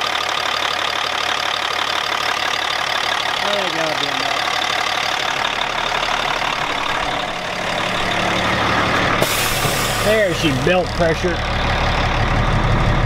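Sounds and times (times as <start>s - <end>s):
diesel engine idling: 0.0s - 13.0s
low engine hum: 0.0s - 13.0s.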